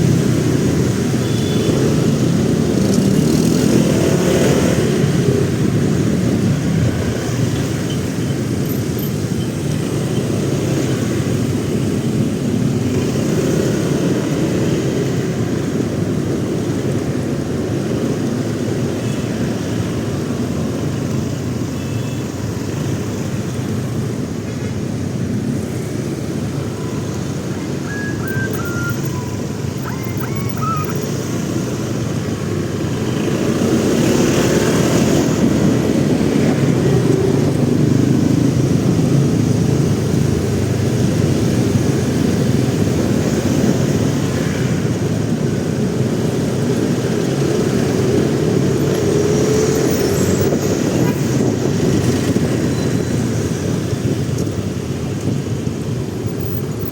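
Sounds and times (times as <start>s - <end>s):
road and wind noise: 0.0s - 56.9s.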